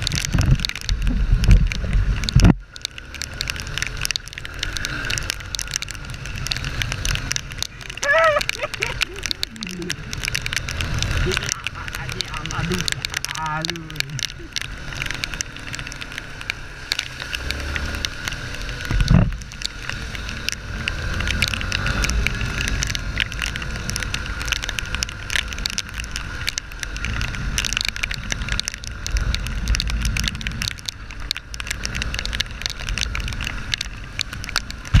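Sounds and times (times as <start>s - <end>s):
raindrops crackling on microphone: 0.0s - 35.0s
rushing wind: 0.0s - 35.0s.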